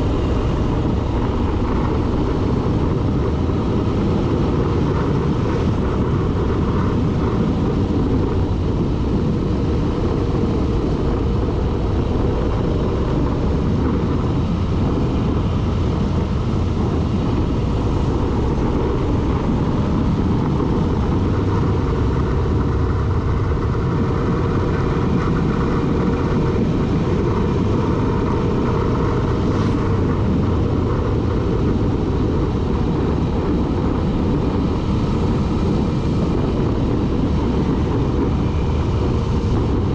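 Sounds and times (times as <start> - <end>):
road and wind noise: 0.0 - 39.9
vehicle engine drone: 0.0 - 39.9.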